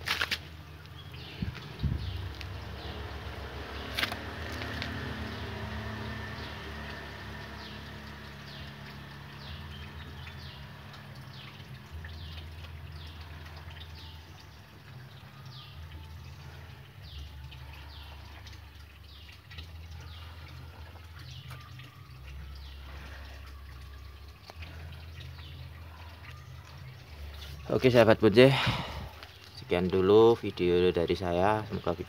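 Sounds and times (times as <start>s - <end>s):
low steady rumble: 0.5s - 29.3s.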